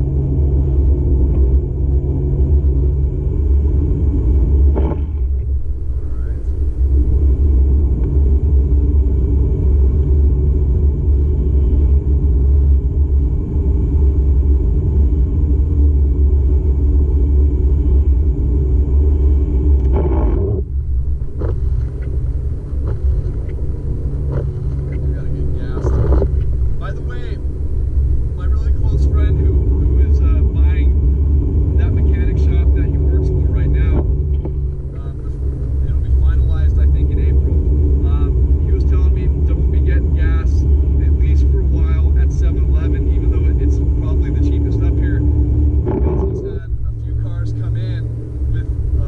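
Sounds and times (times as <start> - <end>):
car engine and road noise: 0.0 - 49.0.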